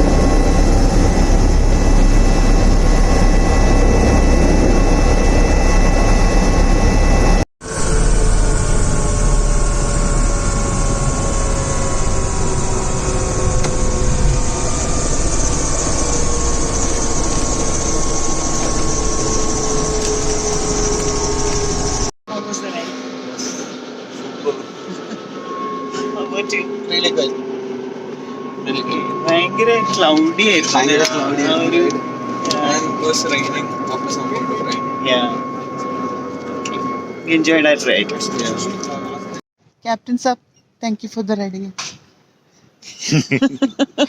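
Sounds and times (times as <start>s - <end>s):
helicopter turbine and rotor noise: 0.0s - 39.4s
high turbine whine: 0.0s - 39.4s.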